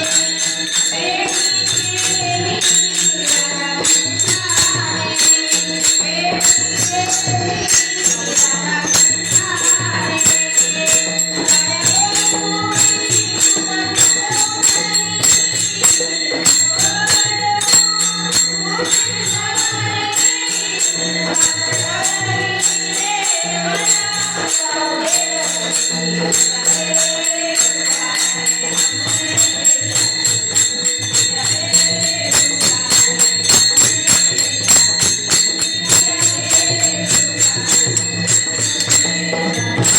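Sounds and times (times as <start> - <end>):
jingling percussion: 0.0 - 39.9
voices singing: 0.0 - 39.9
woman singing: 0.0 - 39.9.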